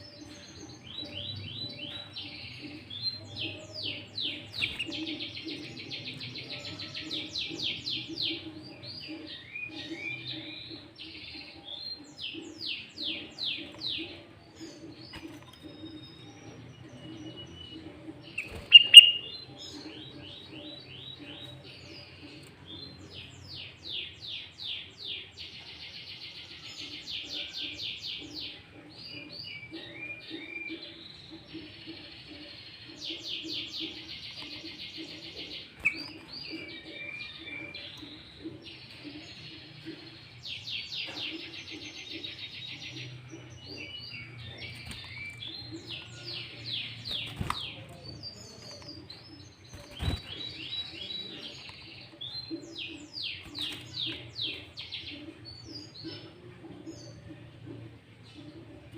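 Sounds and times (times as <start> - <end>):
bird singing rapid trills: 0.0 - 25.3, 26.6 - 57.6.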